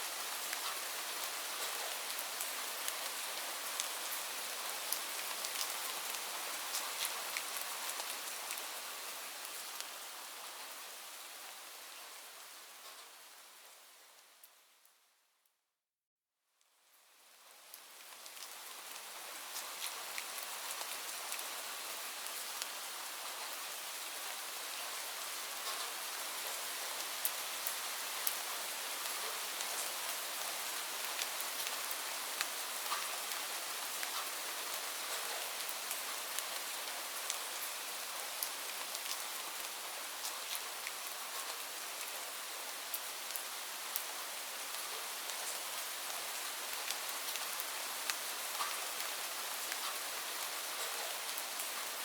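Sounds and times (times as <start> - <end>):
steady falling rain: 0.0 - 15.2, 16.6 - 52.0.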